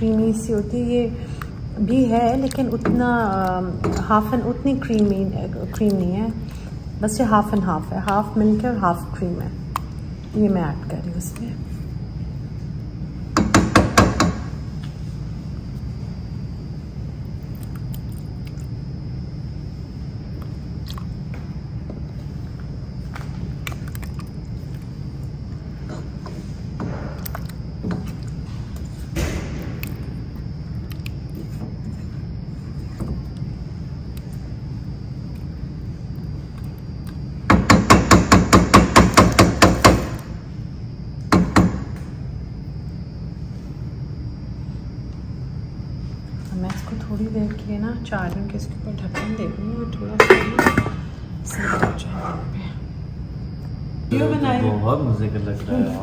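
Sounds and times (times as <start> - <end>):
faint high whine: 0.0 - 56.0.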